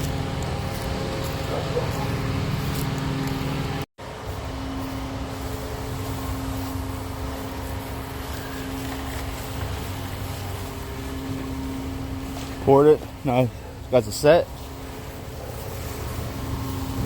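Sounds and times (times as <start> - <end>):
machine hum with droning tone: 0.0 - 17.0.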